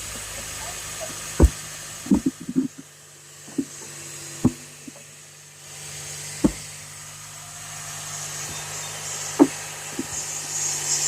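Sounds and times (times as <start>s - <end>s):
sharp engine knocks and clunks: 0.0s - 5.4s, 6.2s - 7.0s, 8.2s - 11.0s
car engine idling: 0.0s - 11.0s.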